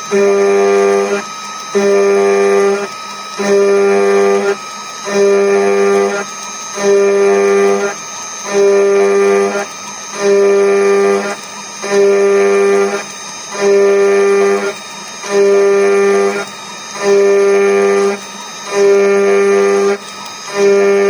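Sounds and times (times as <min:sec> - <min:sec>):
router spindle high-pitched whine: 0:00.0 - 0:21.0.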